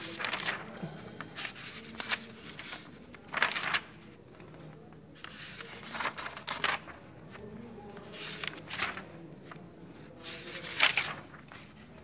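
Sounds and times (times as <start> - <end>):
paper pages being turned: 0.0 - 4.6, 5.2 - 11.9.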